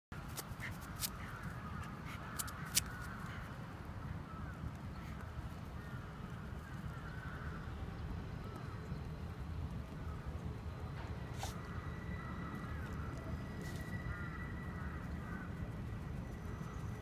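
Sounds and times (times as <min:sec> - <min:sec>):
steady low rumble: 0:00.2 - 0:17.0.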